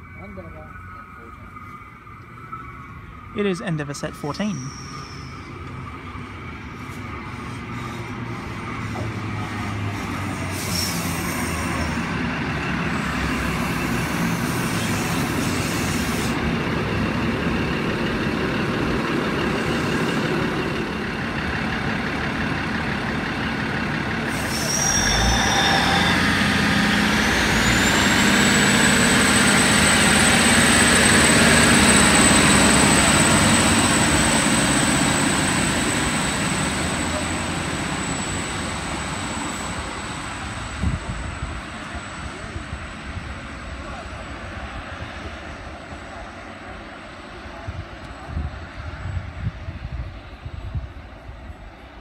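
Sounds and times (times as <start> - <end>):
diesel train engines running: 0.0 - 52.0
high engine whine: 0.0 - 52.0.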